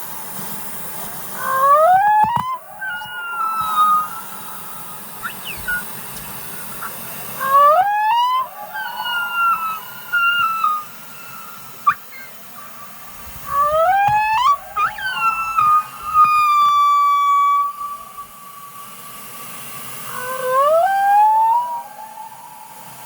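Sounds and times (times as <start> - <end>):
whale song underwater: 0.2 - 23.0.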